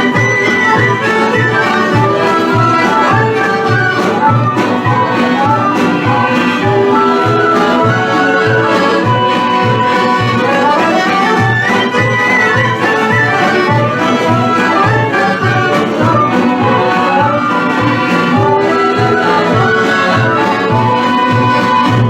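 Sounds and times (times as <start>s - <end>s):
folk dance music on accordion: 0.0s - 22.0s.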